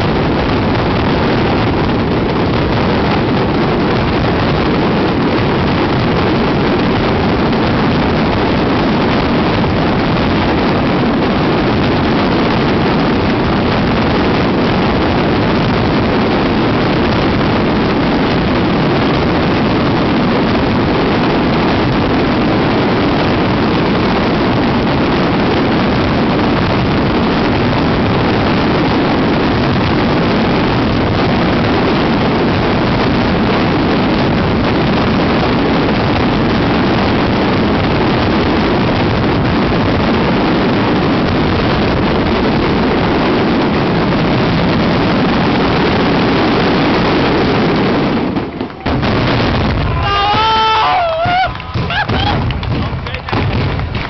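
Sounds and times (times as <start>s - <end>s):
fireworks exploding in a roar: 0.0s - 54.0s.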